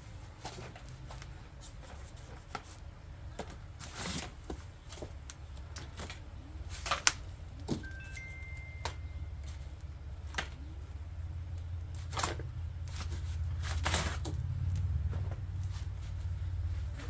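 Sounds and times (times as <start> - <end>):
rustle of plastic packing: 0.0 - 8.6, 11.7 - 17.0.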